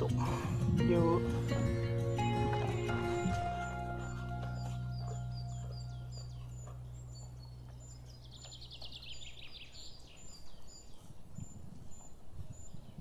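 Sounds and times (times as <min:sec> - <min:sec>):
birds whistling: 0:01.0 - 0:13.0.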